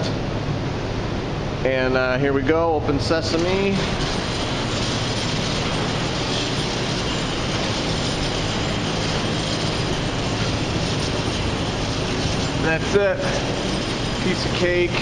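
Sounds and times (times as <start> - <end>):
garage door opener running: 2.5 - 15.0.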